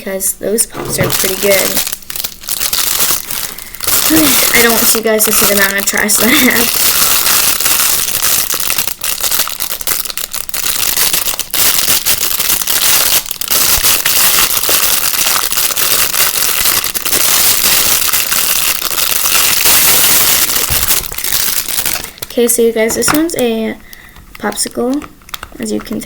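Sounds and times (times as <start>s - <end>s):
plastic packaging crinkling: 0.7s - 26.0s.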